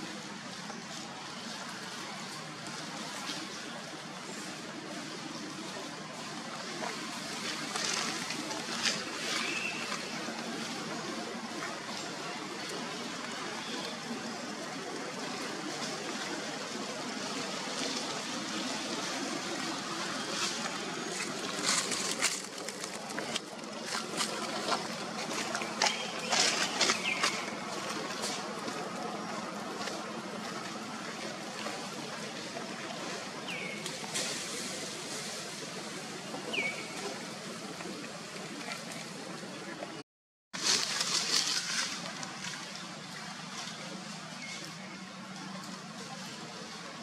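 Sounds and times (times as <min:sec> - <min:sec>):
rushing background noise: 0:00.0 - 0:40.0.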